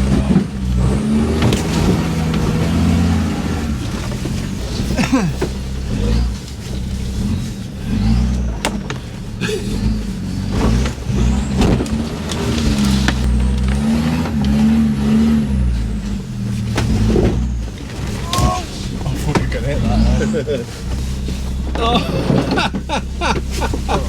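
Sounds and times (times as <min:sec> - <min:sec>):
vehicle knocks and clunks: 0:00.0 - 0:14.8, 0:15.7 - 0:24.0
off-road vehicle engine revving: 0:00.0 - 0:24.0.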